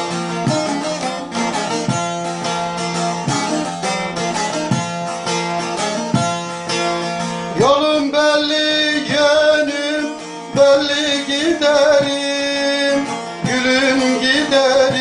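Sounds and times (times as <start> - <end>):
saz plucked with plectrum: 0.0 - 15.0.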